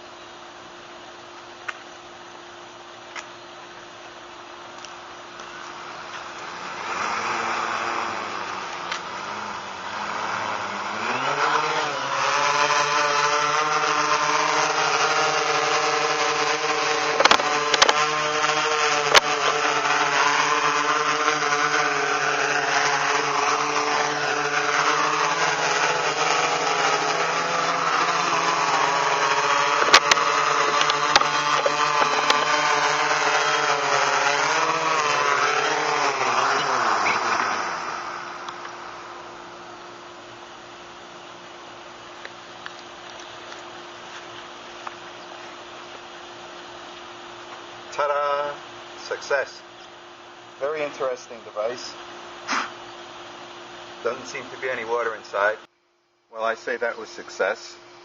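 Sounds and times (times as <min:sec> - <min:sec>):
quadcopter motors buzzing: 0:00.0 - 0:55.7, 0:56.4 - 0:58.0.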